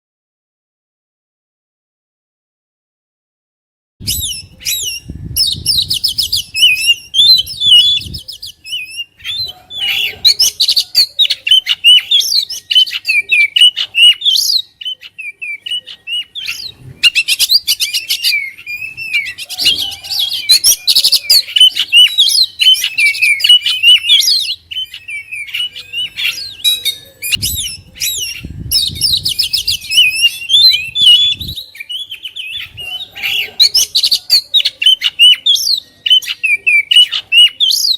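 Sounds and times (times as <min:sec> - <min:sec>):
songbird singing: 0:04.0 - 0:37.9.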